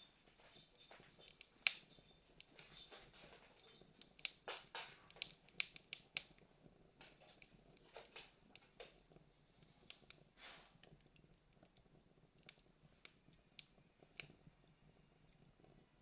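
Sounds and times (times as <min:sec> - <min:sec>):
fire popping and snapping: 0:00.3 - 0:16.0
campfire crackling: 0:01.2 - 0:16.0.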